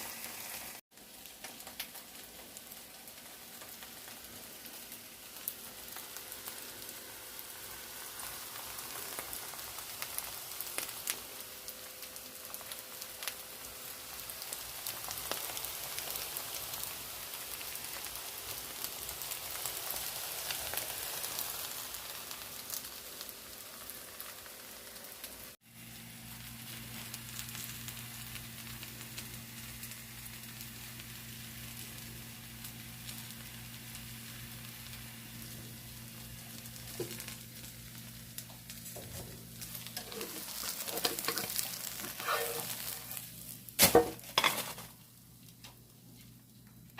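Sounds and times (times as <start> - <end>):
pancake sizzling in oil: 0.0 - 46.9.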